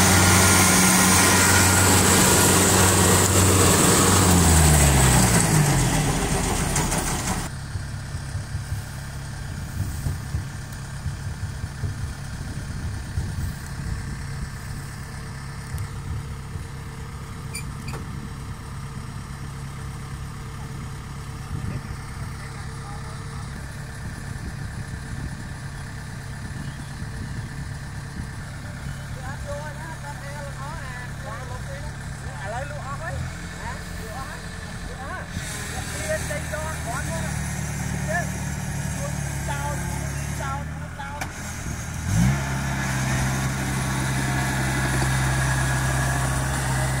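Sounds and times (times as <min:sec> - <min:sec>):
diesel engine running steadily: 0:00.0 - 0:47.0.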